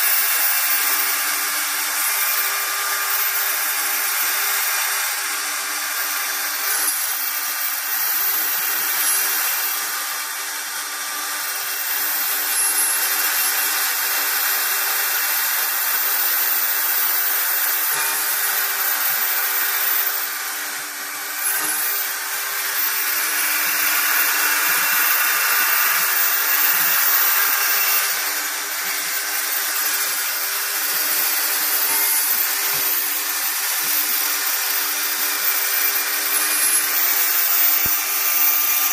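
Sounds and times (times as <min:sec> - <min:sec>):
router milling metal hiss: 0:00.0 - 0:38.9
steady spindle tone: 0:00.0 - 0:38.9.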